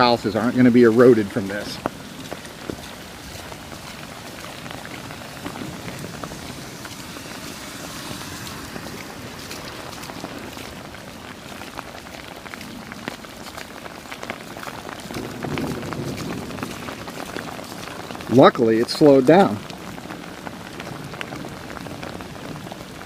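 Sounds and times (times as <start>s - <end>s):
stormwater running and splashing: 0.0s - 23.0s
water drips: 0.0s - 23.0s.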